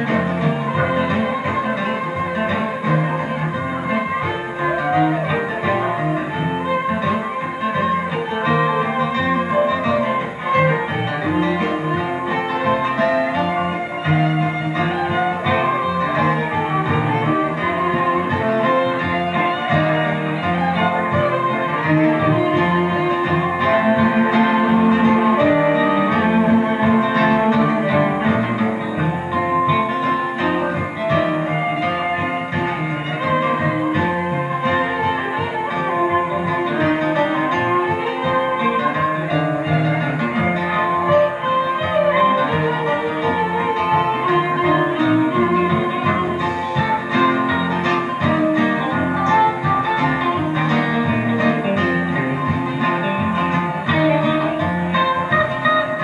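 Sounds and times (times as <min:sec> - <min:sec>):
acoustic guitar playing: 0:00.0 - 0:56.0
electric lead guitar: 0:00.0 - 0:56.0.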